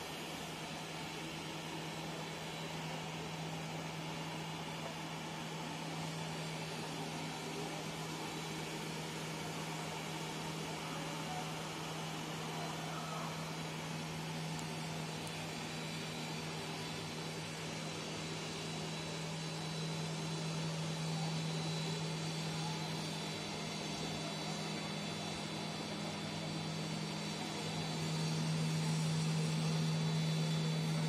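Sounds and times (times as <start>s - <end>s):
machine motor drone: 0.0s - 31.0s.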